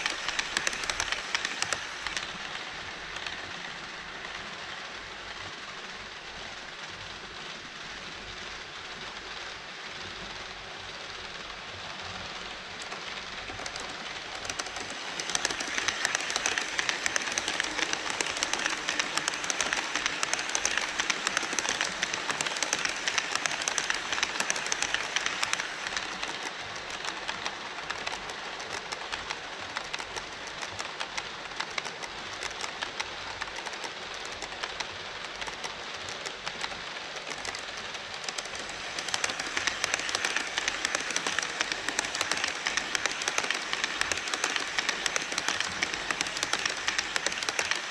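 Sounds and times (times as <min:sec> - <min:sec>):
model train wheels clattering: 0:00.0 - 0:06.5, 0:07.4 - 0:47.9.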